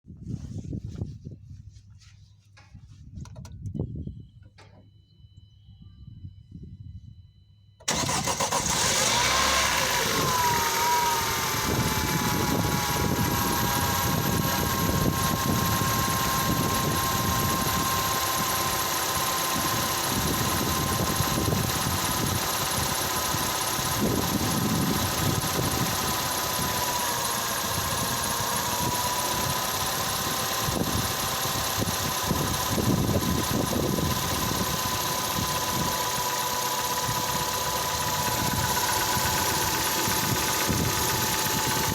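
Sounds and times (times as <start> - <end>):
car engine idling: 7.8 - 41.9.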